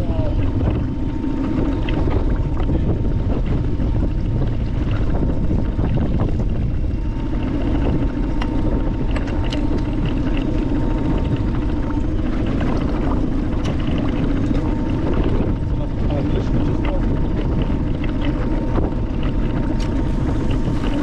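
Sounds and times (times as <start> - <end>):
boat motor rumbling: 0.0 - 21.0
wind noise on microphone: 0.0 - 21.0.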